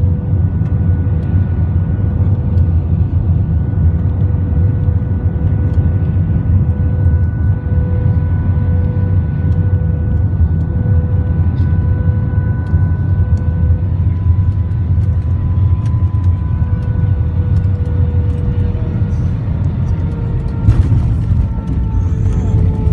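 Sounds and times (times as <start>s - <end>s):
jet engine rumble and whine in cabin: 0.0s - 22.9s.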